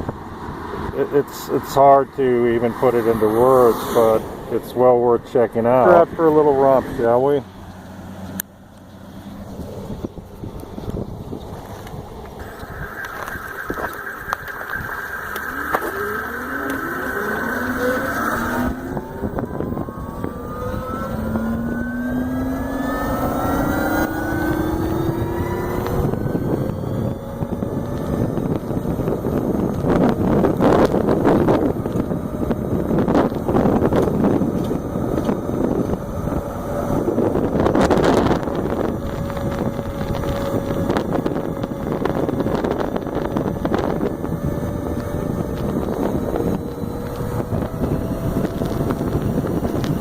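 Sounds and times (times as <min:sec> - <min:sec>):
wind on microphone: 0:00.0 - 0:07.5, 0:09.3 - 0:50.0
electric motorcycle whining: 0:00.0 - 0:50.0.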